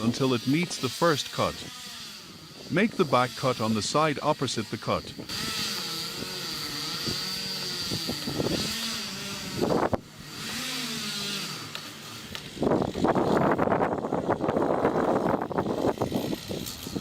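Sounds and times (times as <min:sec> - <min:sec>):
chainsaw cutting tree trunk: 0:00.0 - 0:17.0.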